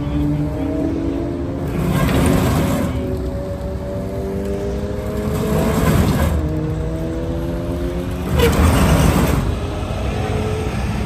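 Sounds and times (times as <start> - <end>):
freeway traffic: 0.0 - 11.0
heavy vehicle engines running: 0.0 - 11.0.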